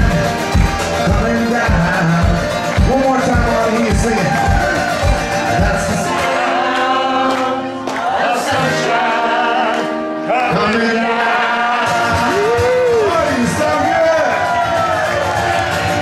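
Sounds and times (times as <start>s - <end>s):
men singing: 0.0s - 13.4s
acoustic guitars strummed: 0.0s - 16.0s.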